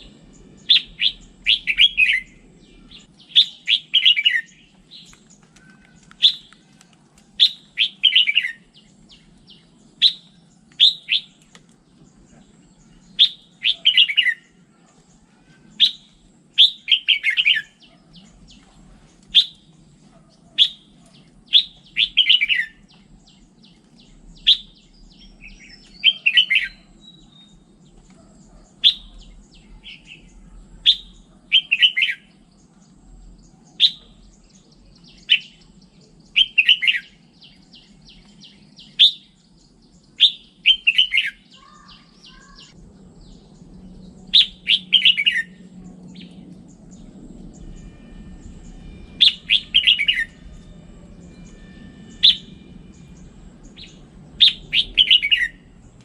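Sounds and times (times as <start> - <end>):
faint low hum: 0.0 - 40.3, 41.5 - 56.0
bird singing: 0.0 - 56.0.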